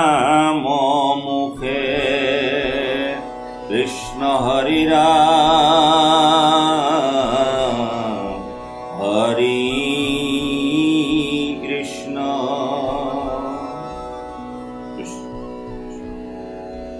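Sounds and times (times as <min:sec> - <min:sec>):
devotional chanting music: 0:00.0 - 0:16.9.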